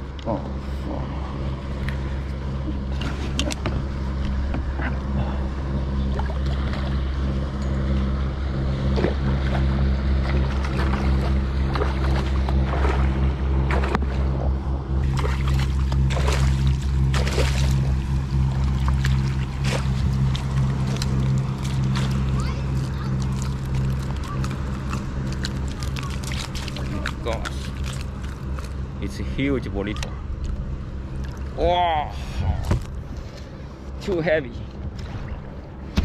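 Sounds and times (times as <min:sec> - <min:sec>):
low engine-like hum: 0:00.0 - 0:36.0
water sloshing and splashing: 0:00.0 - 0:36.0.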